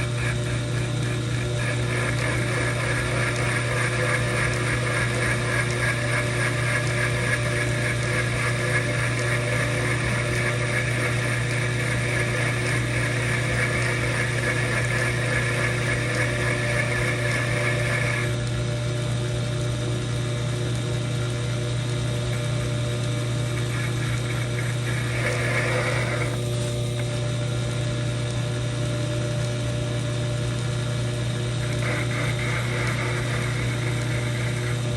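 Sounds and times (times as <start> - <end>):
metal lathe humming: 0.0 - 18.5, 20.7 - 28.2, 30.5 - 34.9.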